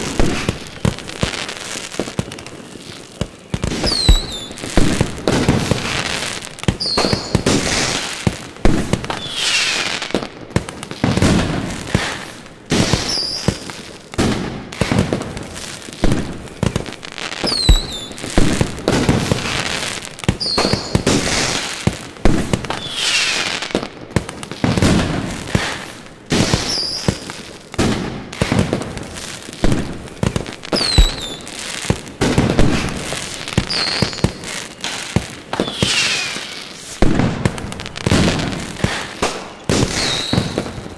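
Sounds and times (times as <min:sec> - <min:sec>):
fireworks bursting with loud bangs: 0:00.0 - 0:40.9
fireworks whistling down in pitch: 0:00.0 - 0:40.9.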